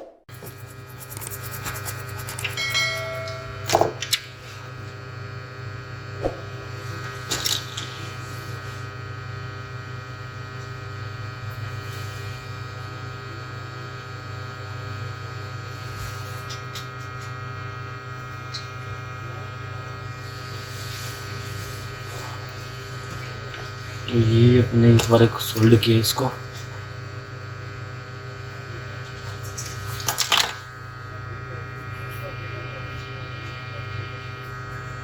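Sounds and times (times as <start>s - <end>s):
electrical hum and buzz: 0.1s - 35.0s.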